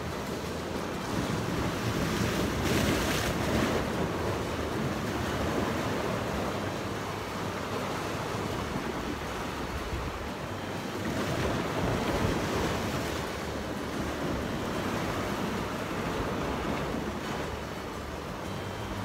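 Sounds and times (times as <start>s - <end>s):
surf washing against rocks: 0.0s - 19.0s.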